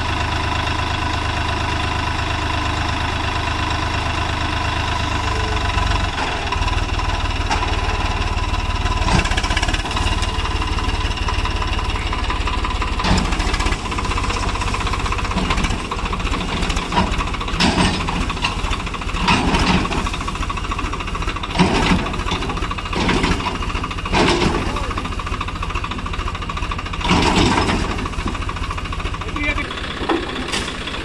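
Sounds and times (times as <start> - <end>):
tractor diesel engine clattering: 0.0 - 31.0.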